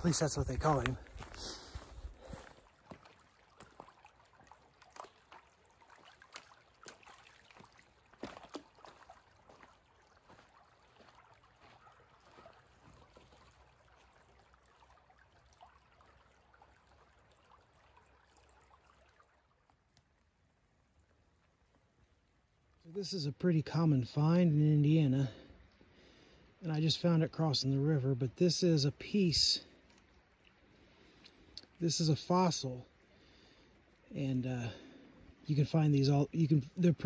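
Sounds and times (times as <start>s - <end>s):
stream water trickling: 0.0s - 37.0s.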